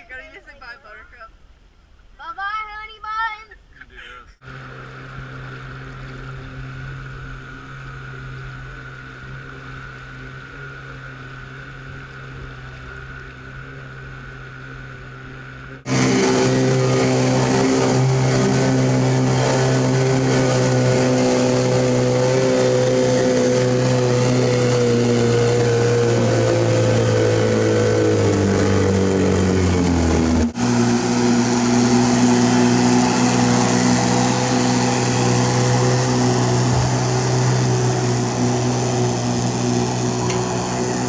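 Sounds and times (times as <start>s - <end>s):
outboard motor running: 4.4s - 41.0s
water rushing along hull: 4.4s - 41.0s.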